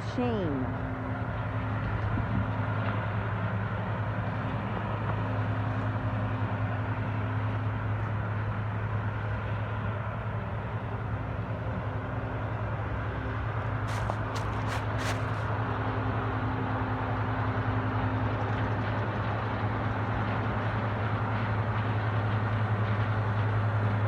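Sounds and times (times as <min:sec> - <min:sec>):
combine harvester engine drone: 0:00.0 - 0:24.0
continuous rushing noise: 0:00.0 - 0:24.0.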